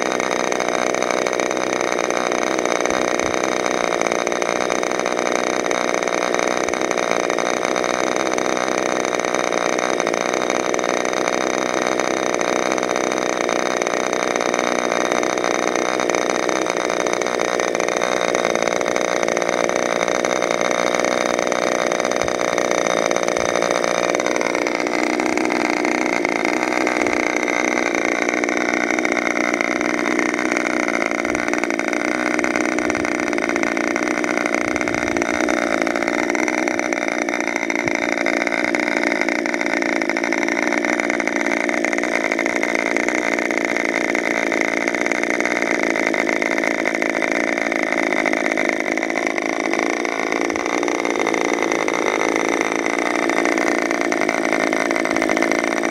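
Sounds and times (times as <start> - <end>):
model airplane engine running: 0.0 - 55.9.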